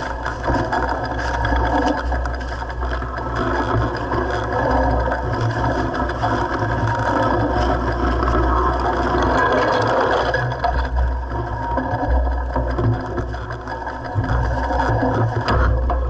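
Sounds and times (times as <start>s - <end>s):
mountain bike rattling on dirt trail: 0.0s - 16.0s.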